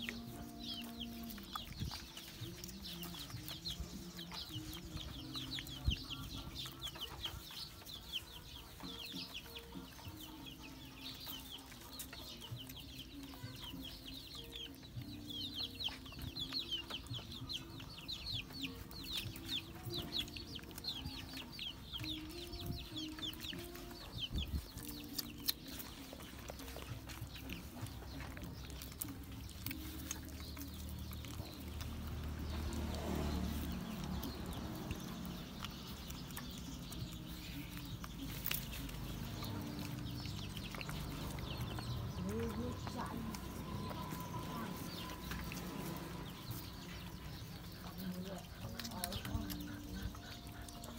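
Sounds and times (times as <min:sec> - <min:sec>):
chickens clucking: 0:00.0 - 0:50.9
high peeping chirps: 0:00.0 - 0:50.9.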